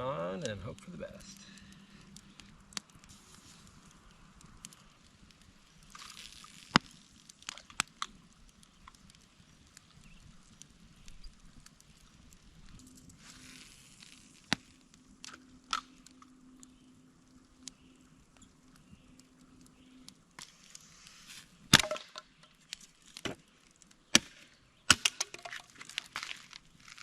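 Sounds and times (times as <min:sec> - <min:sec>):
campfire wood crackling and popping: 0:00.0 - 0:27.0.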